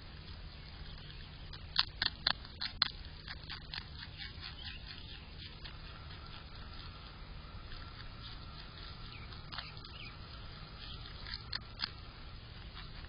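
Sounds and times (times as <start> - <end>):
animal chewing crunchy greens: 0.0 - 13.0.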